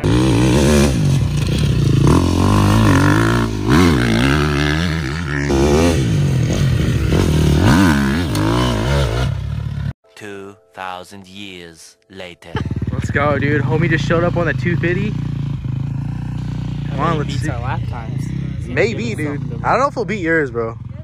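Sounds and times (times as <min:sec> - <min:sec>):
dirt bike engine revving: 0:00.0 - 0:09.9, 0:12.5 - 0:21.0.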